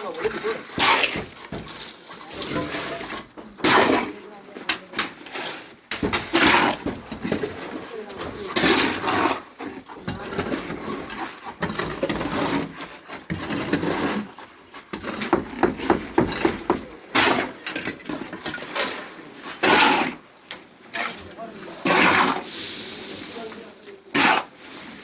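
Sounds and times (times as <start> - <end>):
hand tools and metal pans clattering: 0.0 - 25.0.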